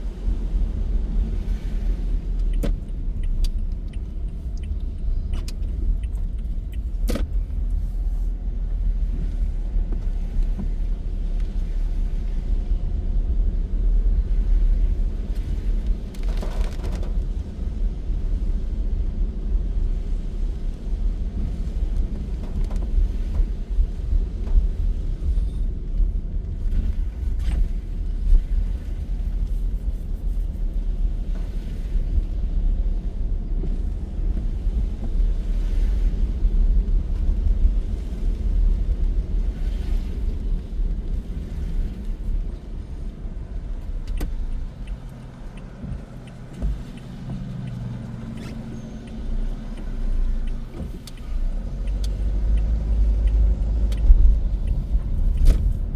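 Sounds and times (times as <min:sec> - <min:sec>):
road and tyre noise: 0:00.0 - 0:55.9.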